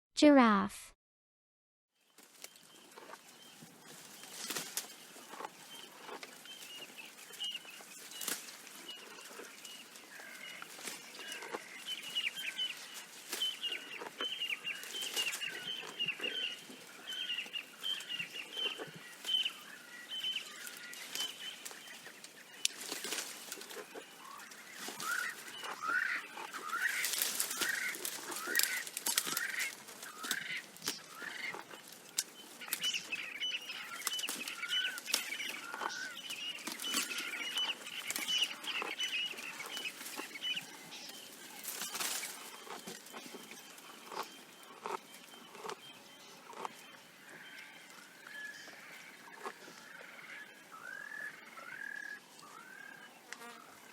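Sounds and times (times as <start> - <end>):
birds chirping: 2.0 - 53.9
swooping bird calls: 5.7 - 53.1.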